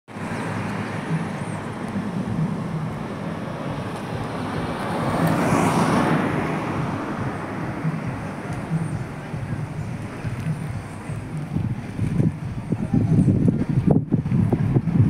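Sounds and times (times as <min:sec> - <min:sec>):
car passing by: 0:00.1 - 0:13.3
road traffic hum: 0:00.1 - 0:15.0.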